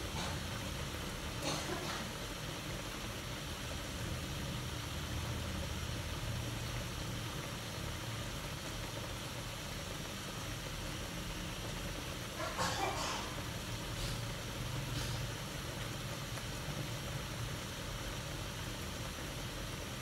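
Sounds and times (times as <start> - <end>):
gas burner hiss: 0.0 - 20.0
water bubbling in a wok: 0.0 - 20.0.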